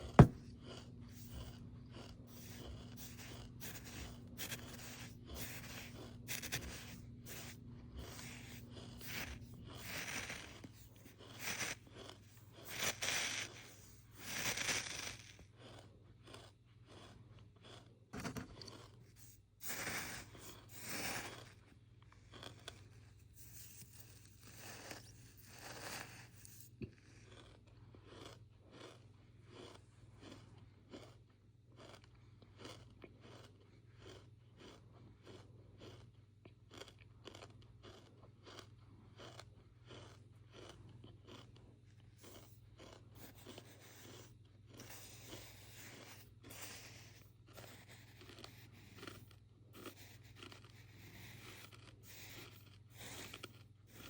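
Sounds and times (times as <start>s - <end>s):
faint steady low hum: 0.0s - 54.0s.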